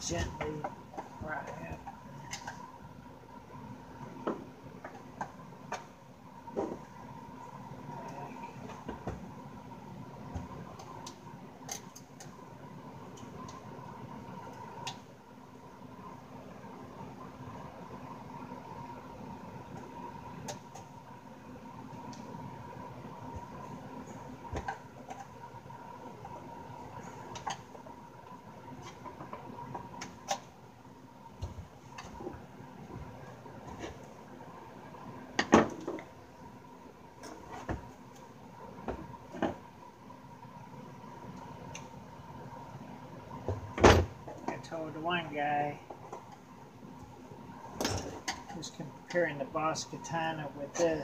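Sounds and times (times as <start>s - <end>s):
steady background hum: 0.0s - 51.0s.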